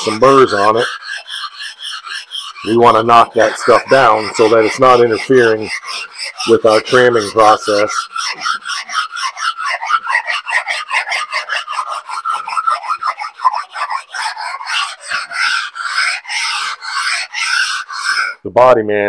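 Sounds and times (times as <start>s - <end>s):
sharpening stone scraping metal: 0.0s - 18.4s.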